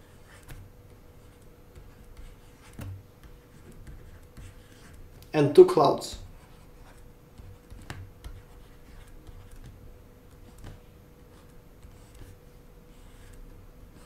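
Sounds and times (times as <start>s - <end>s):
faint steady hum: 0.0s - 14.0s
stylus tapping and scratching tablet: 0.0s - 14.0s.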